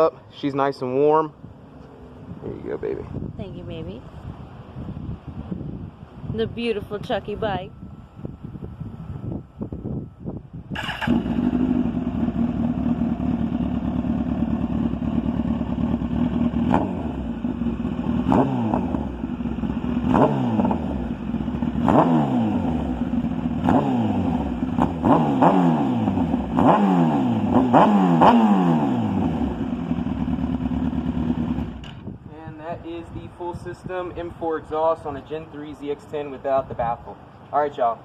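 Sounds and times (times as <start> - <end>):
motorcycle engine idling and revving: 1.4 - 37.8.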